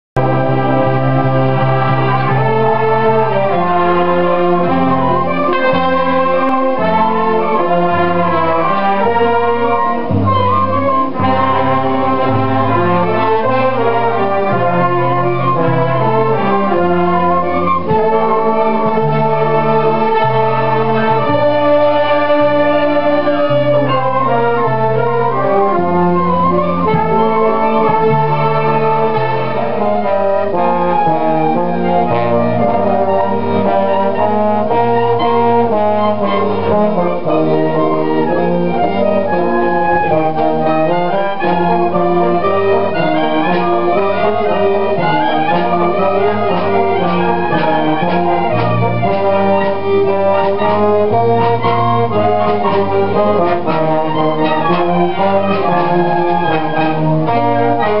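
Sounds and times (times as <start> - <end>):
wind band playing chords: 0.2 - 58.0.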